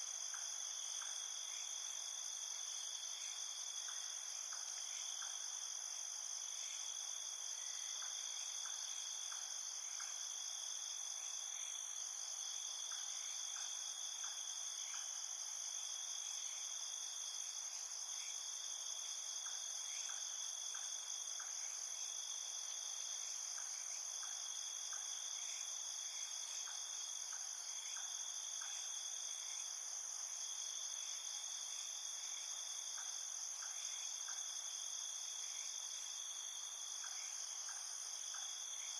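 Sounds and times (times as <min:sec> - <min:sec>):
faint insect chirps: 0:00.0 - 0:38.9.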